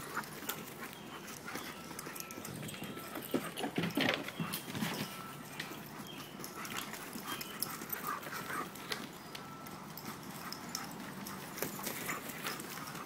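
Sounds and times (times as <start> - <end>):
dogs playing roughly: 0.0 - 13.0.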